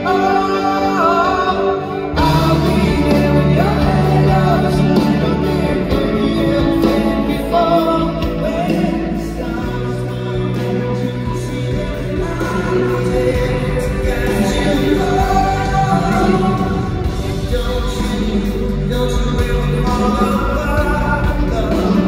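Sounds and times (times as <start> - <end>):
live pop-rock band playing: 0.0 - 22.0
person singing: 0.0 - 22.0.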